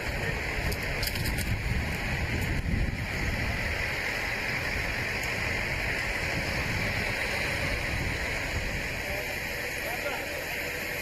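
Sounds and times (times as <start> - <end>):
fire engine engine running: 0.0 - 11.0.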